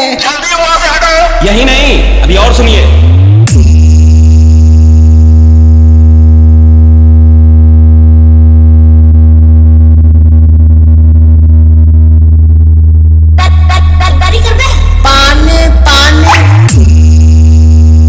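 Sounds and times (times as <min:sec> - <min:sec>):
loud synthesized bass tone: 0:00.3 - 0:18.0.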